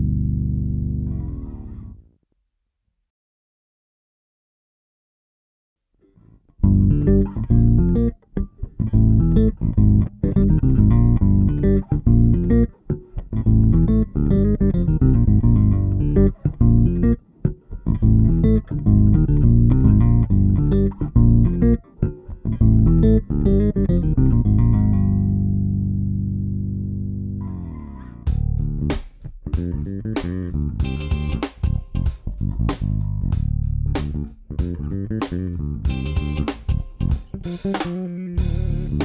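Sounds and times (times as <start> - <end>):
electric bass riff: 0.0 - 2.1, 6.0 - 39.0.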